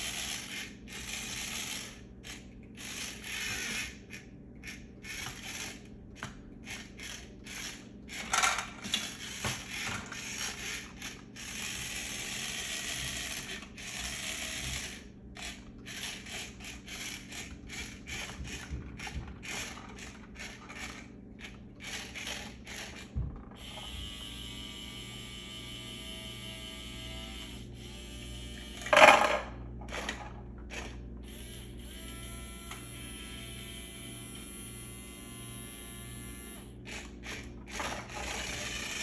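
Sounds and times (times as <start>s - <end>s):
toy truck motor and gears: 0.0s - 39.0s.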